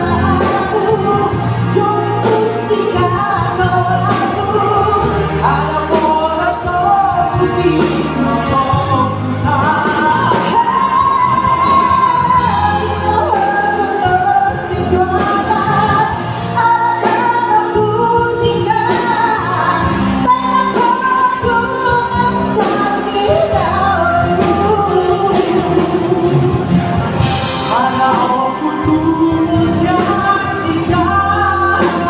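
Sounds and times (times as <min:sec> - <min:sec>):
pop ballad duet singing: 0:00.0 - 0:26.8, 0:27.5 - 0:32.0
instrumental accompaniment: 0:00.0 - 0:32.0.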